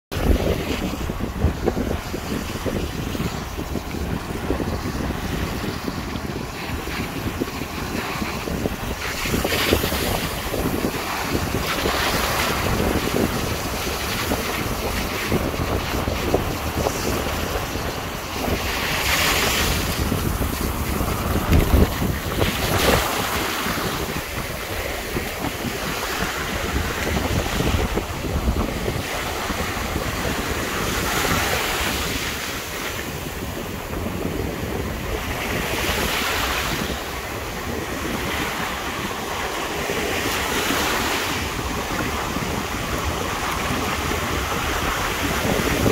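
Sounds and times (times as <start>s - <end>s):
ocean surf washing up beach: 0.1s - 45.9s
wind noise on microphone: 0.1s - 45.9s.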